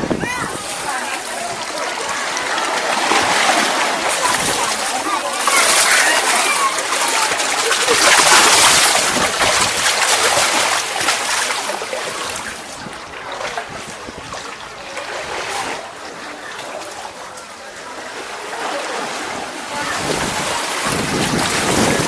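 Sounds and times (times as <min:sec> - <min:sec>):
water splashing along boat hull: 0:00.0 - 0:22.0.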